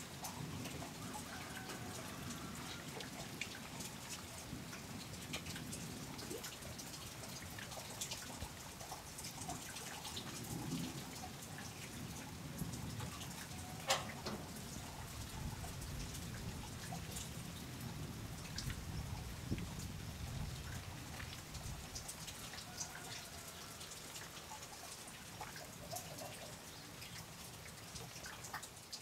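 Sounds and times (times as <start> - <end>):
light rain dripping: 0.0 - 29.0.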